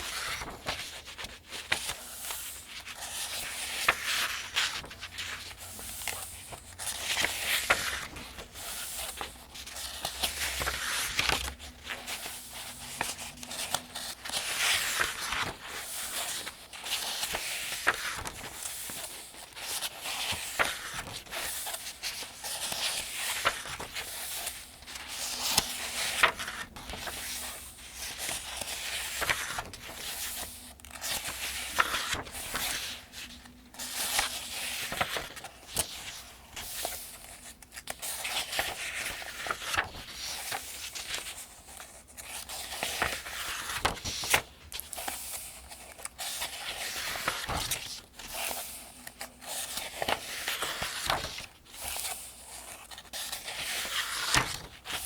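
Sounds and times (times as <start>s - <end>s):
paper pages turning: 0.0s - 55.0s.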